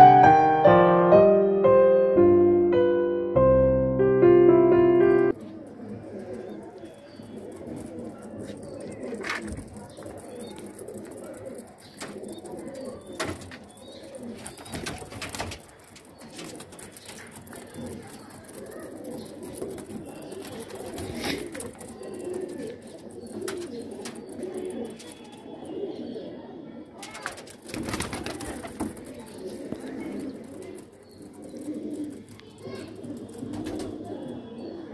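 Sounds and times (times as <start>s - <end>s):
pigeons cooing: 5.3s - 34.9s.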